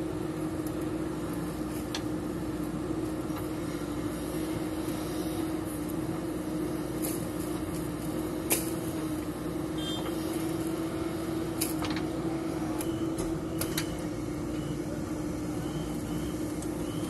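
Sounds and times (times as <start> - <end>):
backhoe diesel engine running: 0.0 - 17.0.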